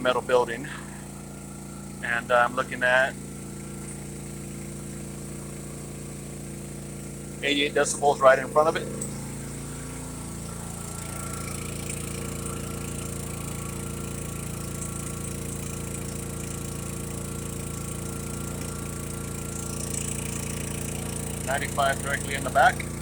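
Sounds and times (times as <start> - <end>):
generator running under load: 0.0 - 23.0.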